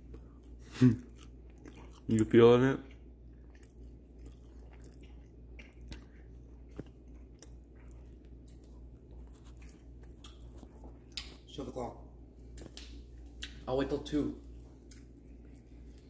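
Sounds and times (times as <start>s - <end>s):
person chewing: 0.0s - 11.5s, 14.4s - 16.0s
low steady hum: 0.0s - 16.0s.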